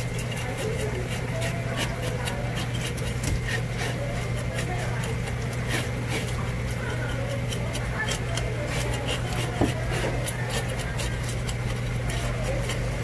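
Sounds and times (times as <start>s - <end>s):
knife scraping fish: 0.0s - 13.0s
steady low hum: 0.0s - 13.0s.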